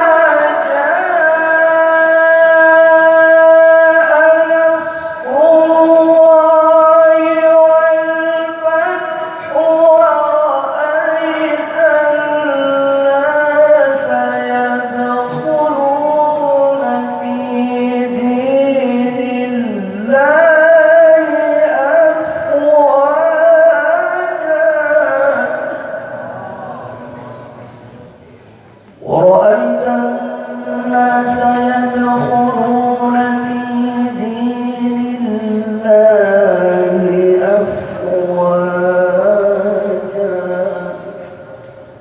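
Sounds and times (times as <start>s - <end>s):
man chanting melodic recitation: 0.0s - 28.4s, 29.0s - 42.0s.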